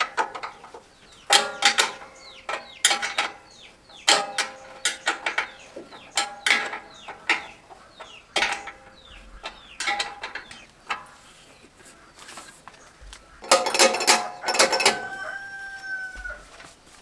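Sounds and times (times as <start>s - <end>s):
hand tools knocking on metal: 0.0s - 11.2s, 13.0s - 16.4s.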